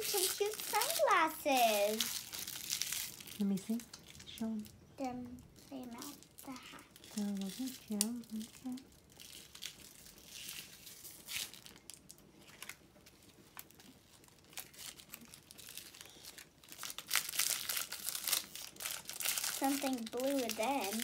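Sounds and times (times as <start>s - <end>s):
plastic wrapper crinkling and tearing: 0.0s - 4.8s, 5.4s - 21.0s.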